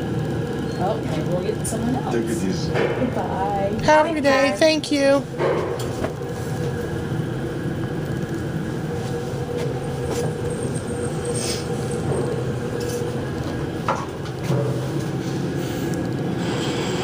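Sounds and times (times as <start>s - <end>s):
elevator hum and rumble: 0.0s - 17.0s.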